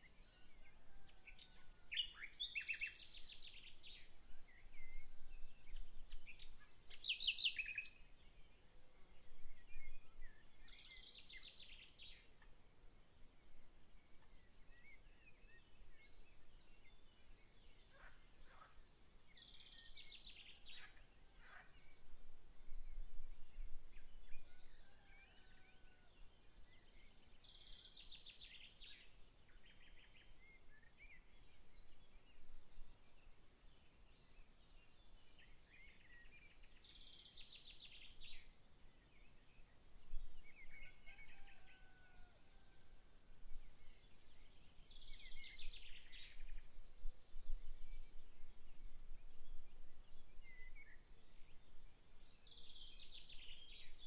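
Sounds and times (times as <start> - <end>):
faint background noise: 0.0 - 54.0
songbirds singing: 0.0 - 54.0.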